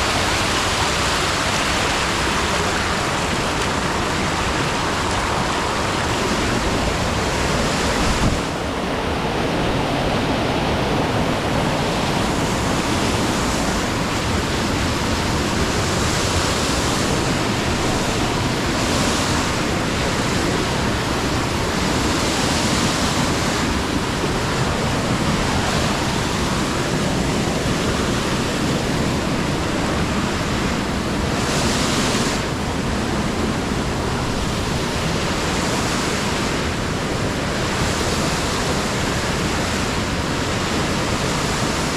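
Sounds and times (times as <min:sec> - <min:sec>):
rushing water: 0:00.0 - 0:41.9.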